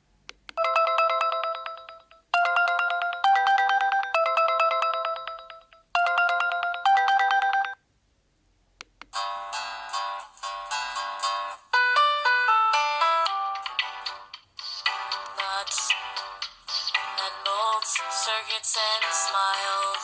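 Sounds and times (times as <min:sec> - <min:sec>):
phone ringtone melody: 0:00.6 - 0:07.8, 0:09.2 - 0:20.0.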